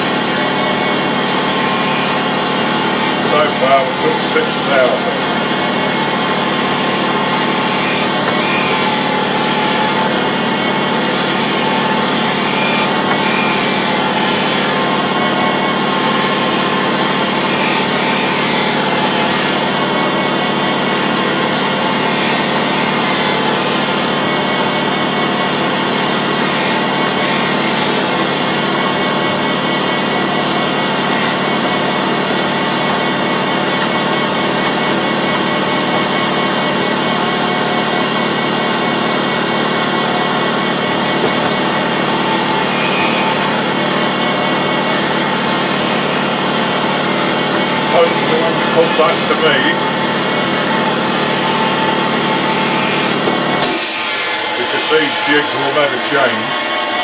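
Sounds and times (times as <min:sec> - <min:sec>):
machine tool cutting metal: 0:00.0 - 0:57.0.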